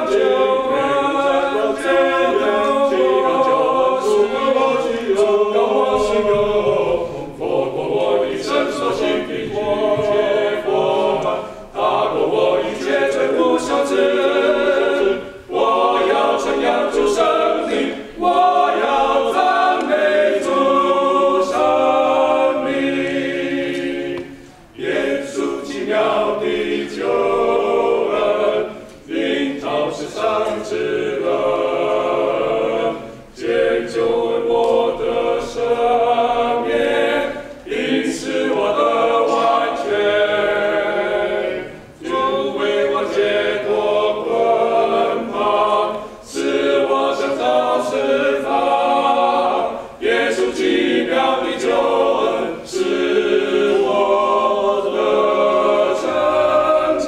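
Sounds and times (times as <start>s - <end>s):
men singing in harmony: 0.0s - 57.0s.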